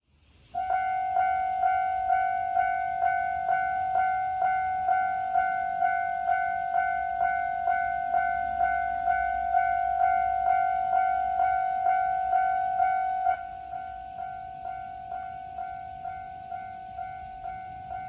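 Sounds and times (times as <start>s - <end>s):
steady ringing tone: 0.6s - 18.0s.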